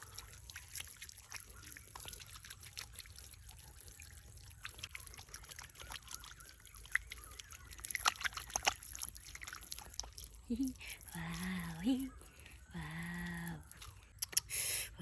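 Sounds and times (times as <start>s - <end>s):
small ticks: 0.0s - 14.5s
water trickling and dripping: 0.0s - 15.0s.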